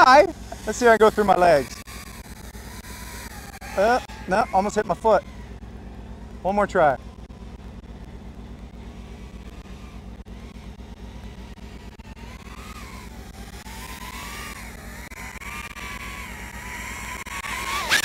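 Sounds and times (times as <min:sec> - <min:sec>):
drone motors whining: 0:00.0 - 0:18.0
steady low hum: 0:00.0 - 0:18.0.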